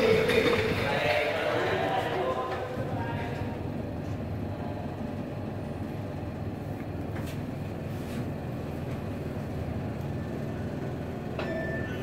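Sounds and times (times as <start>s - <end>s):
elevator car rumble: 0.0s - 12.0s.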